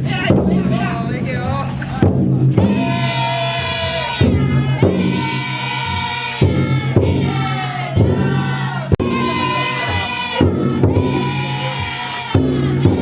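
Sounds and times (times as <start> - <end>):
taiko drum strikes: 0.0 - 13.0
people chanting together: 1.8 - 13.0.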